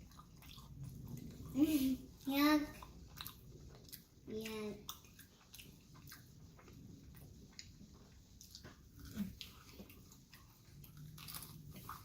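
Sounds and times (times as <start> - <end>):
chewing and wet mouth clicks: 0.0 - 1.5, 2.2 - 12.0.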